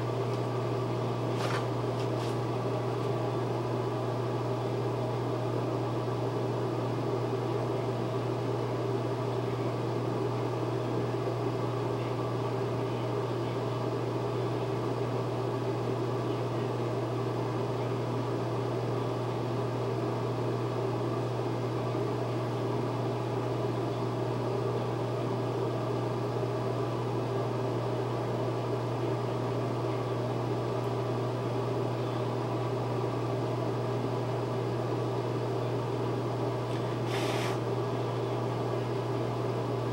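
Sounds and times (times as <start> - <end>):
machine hum with airy rushing: 0.0 - 39.9.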